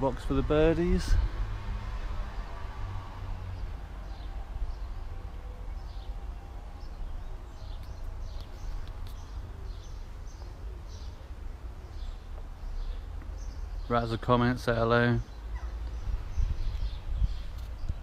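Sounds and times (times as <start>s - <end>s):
small birds chirping: 3.5s - 18.0s.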